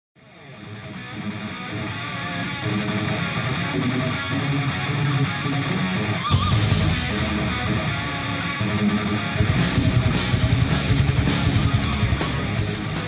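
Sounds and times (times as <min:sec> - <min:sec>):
electric guitar music: 0:00.2 - 0:13.0.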